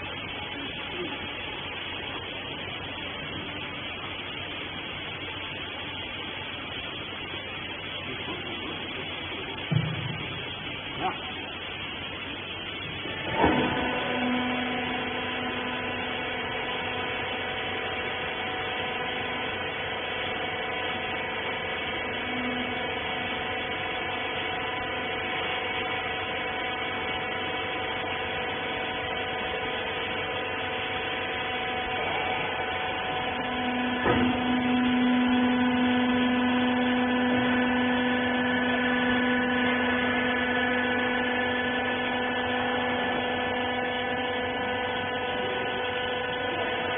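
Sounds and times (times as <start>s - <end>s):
electric motor and pump humming: 0.0s - 46.9s.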